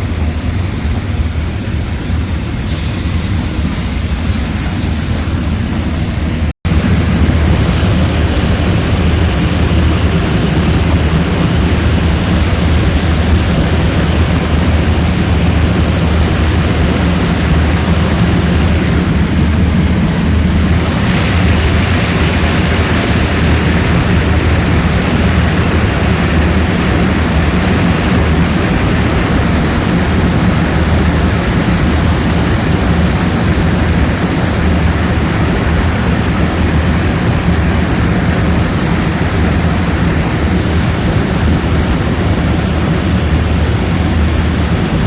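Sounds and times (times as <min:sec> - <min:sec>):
propeller aircraft engine droning: 0:00.0 - 0:45.0
wind rush: 0:00.0 - 0:45.0.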